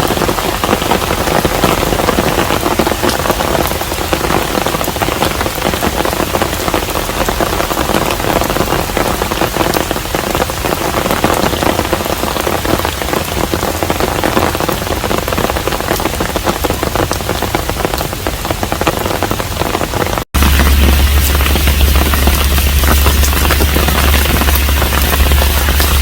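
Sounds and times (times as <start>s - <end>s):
rain falling on a house: 0.0s - 26.0s.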